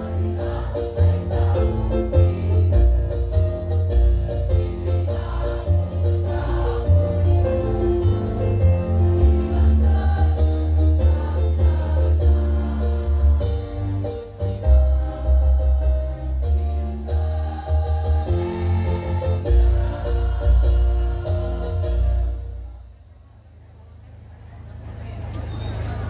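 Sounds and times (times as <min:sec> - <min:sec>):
women's choir singing: 0:00.0 - 0:03.6, 0:04.7 - 0:22.4
instrumental music with heavy bass: 0:00.0 - 0:22.7.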